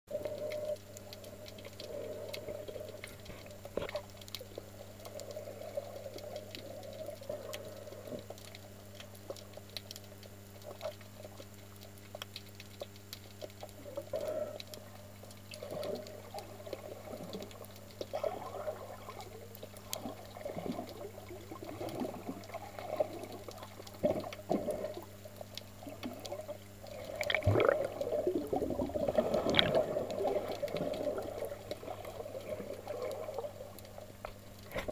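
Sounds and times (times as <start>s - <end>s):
low underwater hum: 0.1s - 34.9s
underwater gurgling and sloshing: 0.1s - 34.9s.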